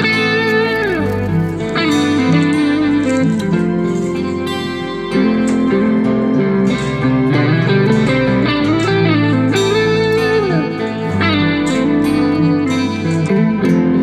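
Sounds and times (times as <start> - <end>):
guitar with sliding notes: 0.0 - 14.0
steady bass line: 0.0 - 14.0.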